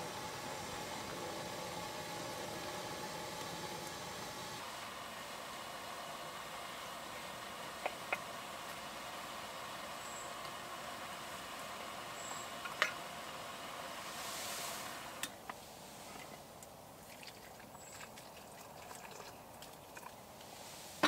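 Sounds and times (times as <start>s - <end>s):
stove hissing: 0.0s - 16.8s, 20.2s - 21.0s.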